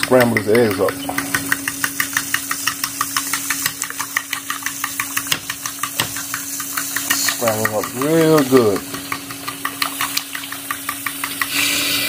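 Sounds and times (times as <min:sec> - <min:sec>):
fork tapping metal bowl: 0:00.0 - 0:11.6.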